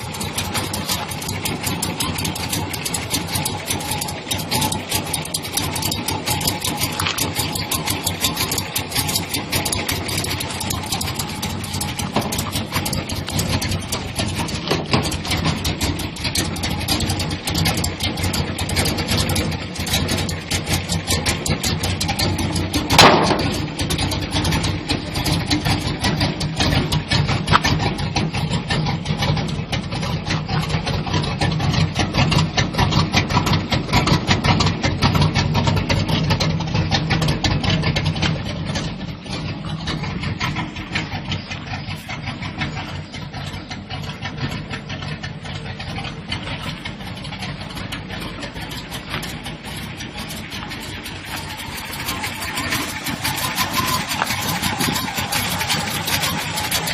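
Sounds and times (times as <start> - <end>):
pickup engine idling roughly: 0.0 - 56.9.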